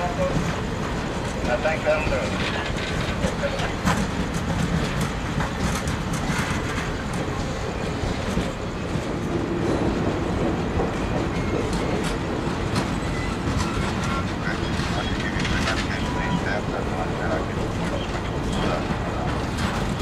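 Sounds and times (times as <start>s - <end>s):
rail joint clicks: 0.0s - 20.0s
train wheels rumbling on rails: 0.0s - 20.0s.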